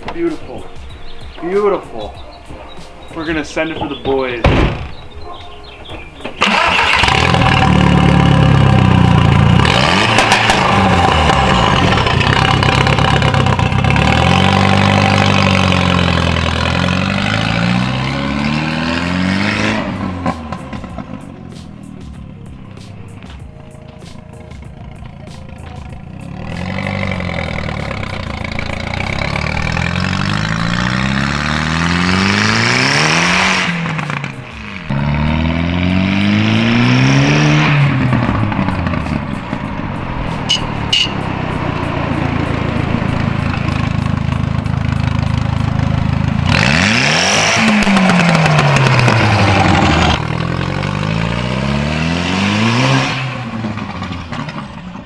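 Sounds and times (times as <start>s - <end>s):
car engine revving: 6.4s - 23.4s, 24.4s - 55.0s.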